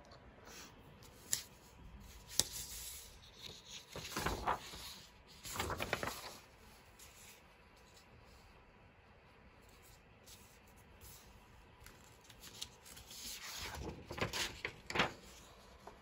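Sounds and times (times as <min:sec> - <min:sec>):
paper rustling: 0:01.1 - 0:08.4, 0:09.6 - 0:16.0.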